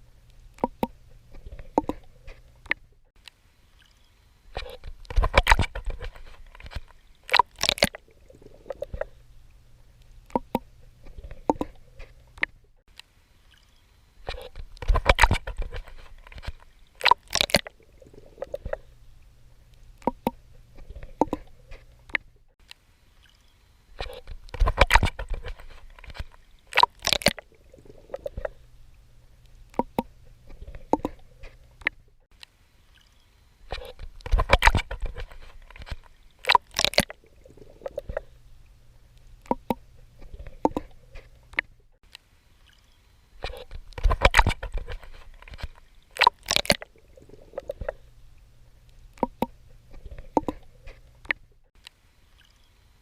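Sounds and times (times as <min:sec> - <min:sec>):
water splashing from swimming: 0:00.0 - 0:02.9, 0:03.7 - 0:12.5, 0:13.3 - 0:22.2, 0:23.0 - 0:32.0, 0:32.8 - 0:41.7, 0:42.6 - 0:51.4.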